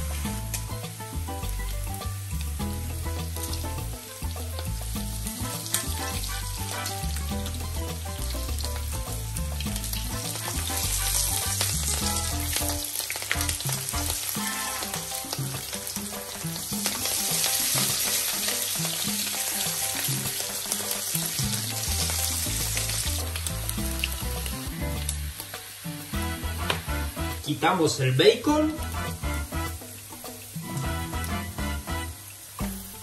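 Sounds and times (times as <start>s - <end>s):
bacon sizzling in a pan: 0.0s - 33.0s.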